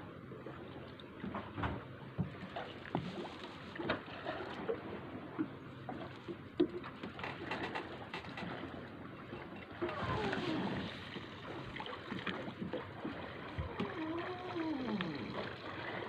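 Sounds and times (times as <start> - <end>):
boat engine low rumble: 0.0 - 16.0
water against hull: 0.0 - 16.0.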